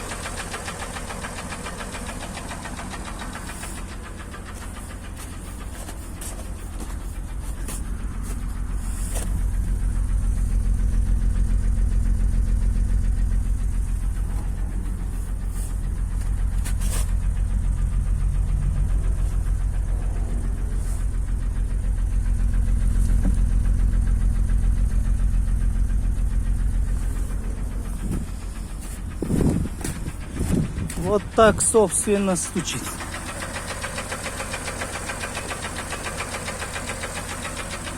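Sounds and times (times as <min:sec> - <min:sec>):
engine running with rapid knock: 0:00.0 - 0:37.9.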